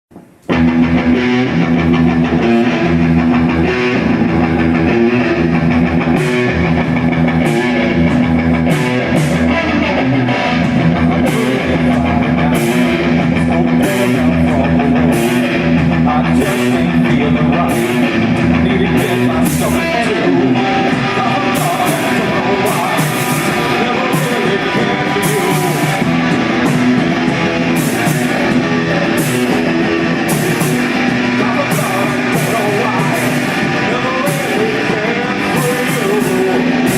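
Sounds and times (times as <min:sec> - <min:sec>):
rock band playing live: 0:00.1 - 0:36.9.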